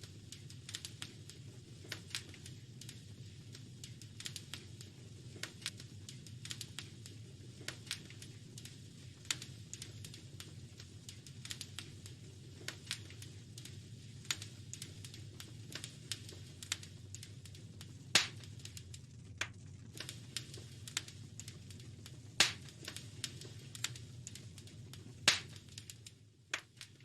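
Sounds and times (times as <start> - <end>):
loud fire pops: 0.0 - 27.0
wood fire crackling: 0.0 - 27.0.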